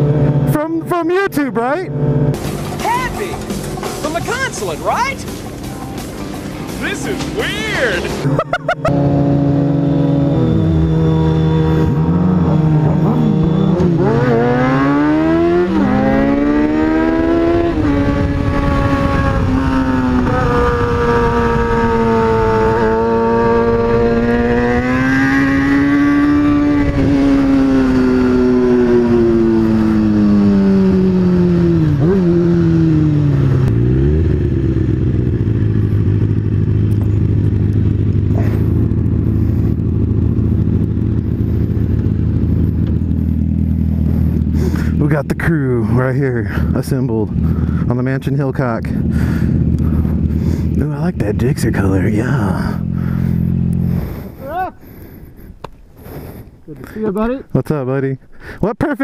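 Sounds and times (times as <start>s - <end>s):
motorcycle engine running: 0.0s - 56.4s.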